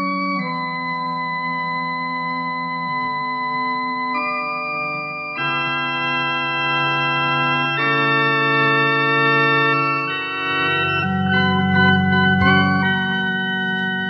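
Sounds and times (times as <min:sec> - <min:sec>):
organ-like keyboard chords: 0:00.0 - 0:14.0.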